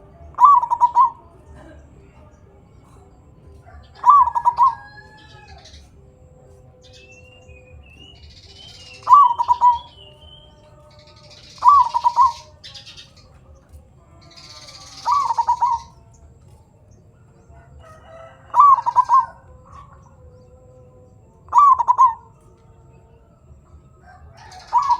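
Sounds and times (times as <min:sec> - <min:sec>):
dove cooing: 0:00.0 - 0:24.9
faint bird chirps: 0:00.0 - 0:24.9.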